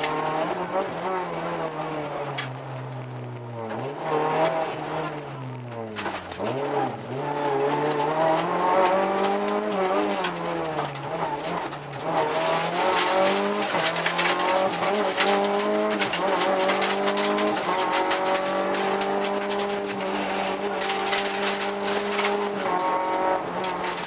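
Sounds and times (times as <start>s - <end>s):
rally car engine revving: 0.0s - 24.0s
sharp clicks and knocks: 0.0s - 24.0s.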